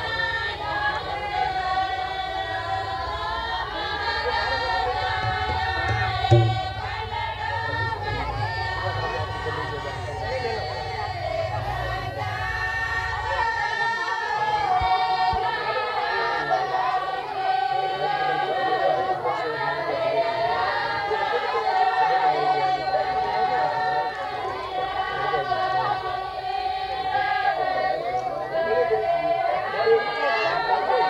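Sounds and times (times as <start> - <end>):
women singing folk song together: 0.0 - 31.0.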